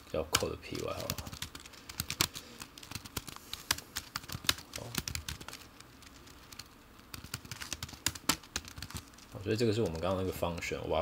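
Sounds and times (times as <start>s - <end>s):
typing on computer keyboard: 0.4s - 9.2s.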